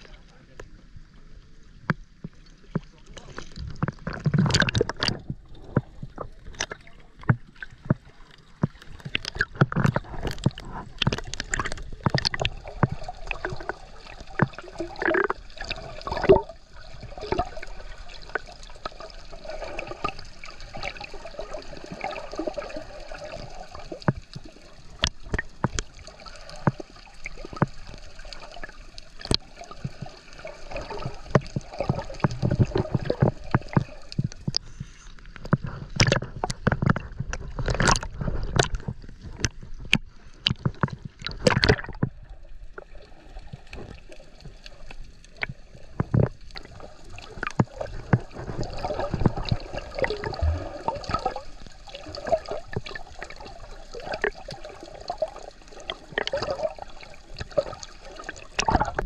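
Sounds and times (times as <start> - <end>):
sea water sloshing and splashing: 0.0 - 59.0.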